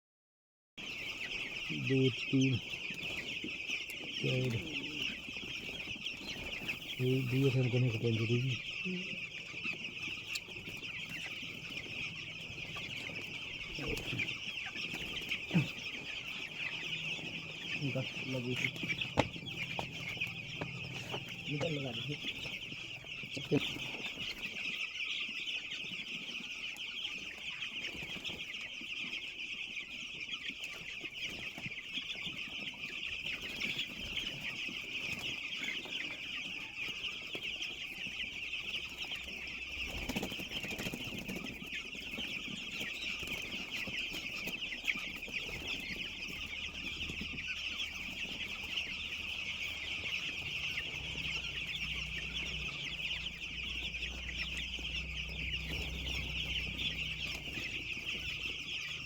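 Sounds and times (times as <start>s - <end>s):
chicks peeping: 0.8s - 59.0s.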